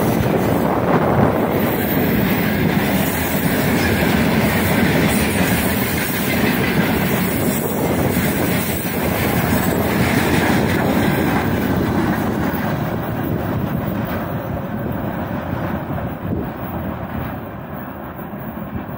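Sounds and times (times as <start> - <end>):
train wheels clattering on rails: 0.0 - 18.9.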